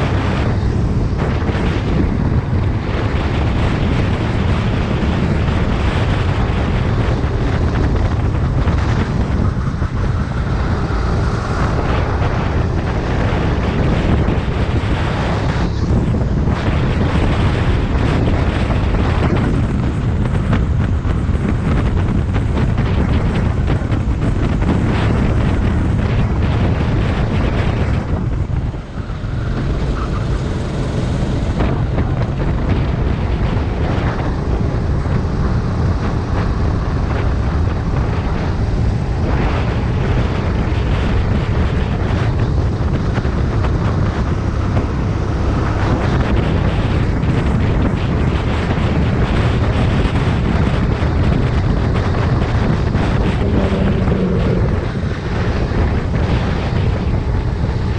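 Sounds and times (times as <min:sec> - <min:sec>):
kart engine running hard: 0:00.0 - 0:57.9
wind buffeting microphone: 0:00.0 - 0:57.9.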